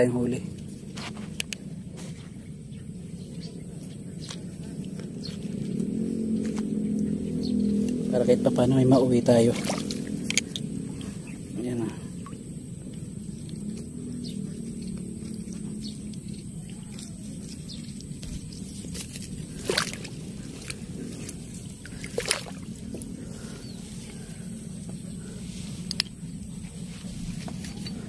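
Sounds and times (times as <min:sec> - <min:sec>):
wading through shallow water: 0:00.0 - 0:28.0.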